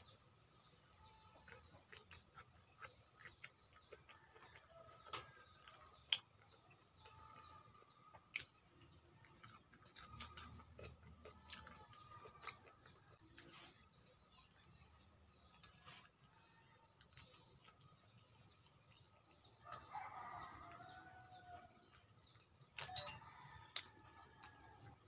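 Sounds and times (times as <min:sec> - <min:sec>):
faint chewing and mouth sounds: 0:00.0 - 0:25.0.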